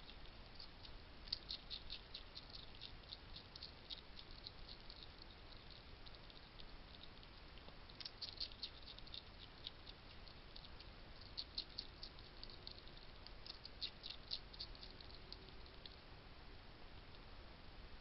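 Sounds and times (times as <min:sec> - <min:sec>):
hedgehog crunching dry food: 0:00.0 - 0:16.0.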